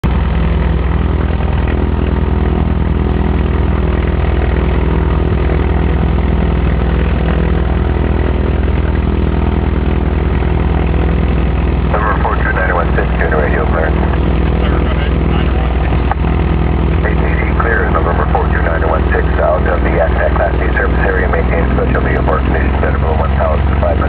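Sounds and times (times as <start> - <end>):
propeller plane engine running: 0.0 - 24.0.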